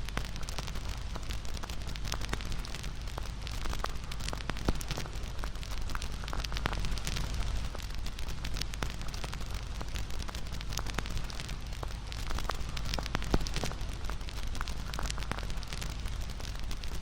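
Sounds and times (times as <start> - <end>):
campfire crackling and popping: 0.0 - 17.0
low rumble of flame: 0.0 - 17.0.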